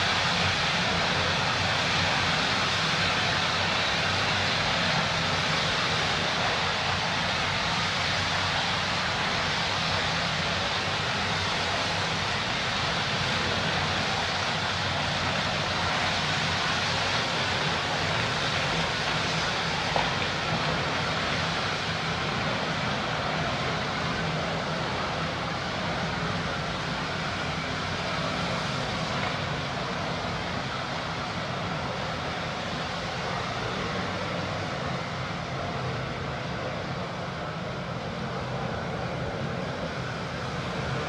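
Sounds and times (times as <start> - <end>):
gas fire hissing roar: 0.0 - 41.0.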